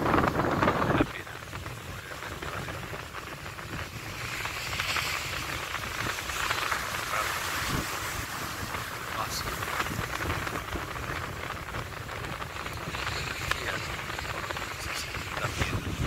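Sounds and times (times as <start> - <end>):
surf breaking over rocks: 0.0 - 16.0
wind buffeting microphone: 0.0 - 16.0.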